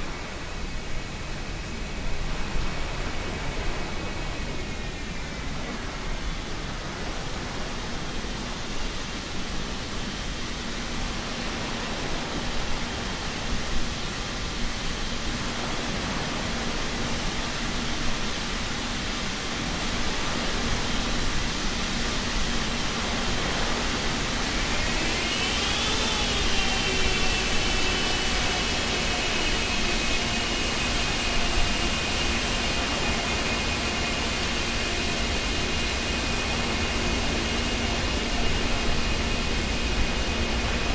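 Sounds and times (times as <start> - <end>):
high engine whine: 0.0 - 40.9
jet engines running: 0.0 - 40.9.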